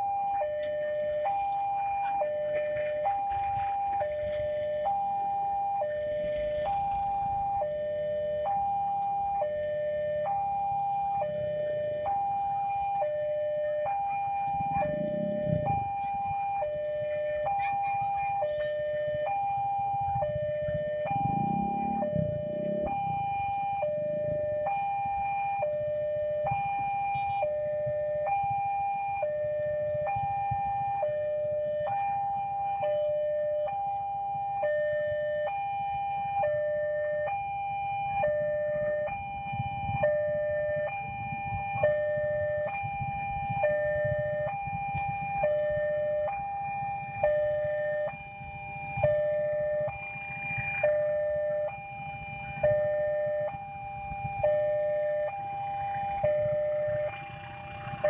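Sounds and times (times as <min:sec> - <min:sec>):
level crossing warning bell: 0:00.0 - 0:58.0
passing traffic rumble: 0:00.0 - 0:58.0.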